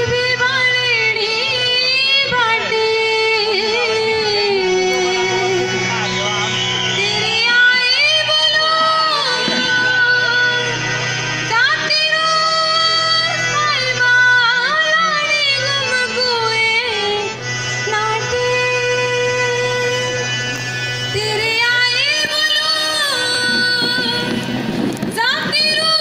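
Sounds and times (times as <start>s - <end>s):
instrumental folk backing: 0.0s - 26.0s.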